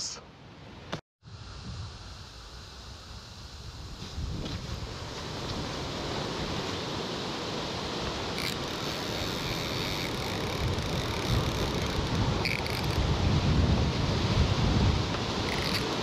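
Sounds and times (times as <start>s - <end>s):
wind blowing on microphone: 1.3s - 2.3s, 3.2s - 7.2s, 7.9s - 16.0s.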